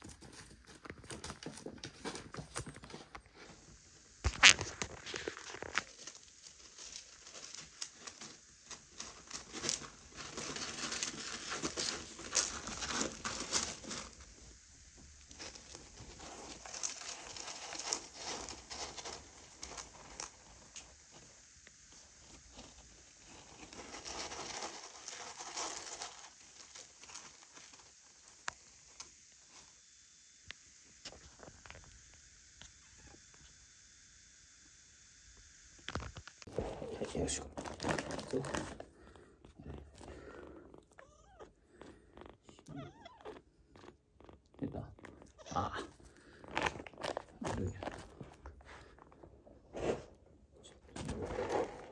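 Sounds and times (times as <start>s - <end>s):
kitten scratching cat litter: 0.0s - 29.7s, 36.4s - 50.2s.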